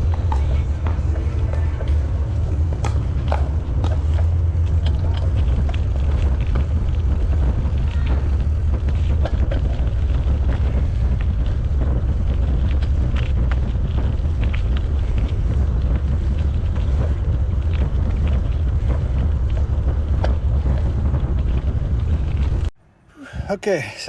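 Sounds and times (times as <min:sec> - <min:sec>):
wind buffeting microphone: 0:00.0 - 0:22.7.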